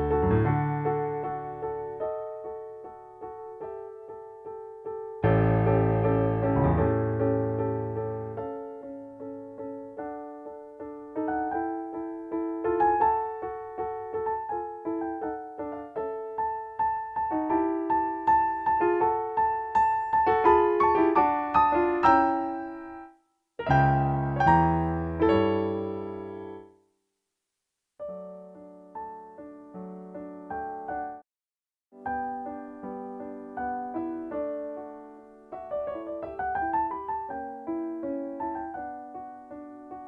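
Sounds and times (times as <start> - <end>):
slow piano music: 0.0 - 26.8, 28.0 - 31.3, 31.9 - 40.0.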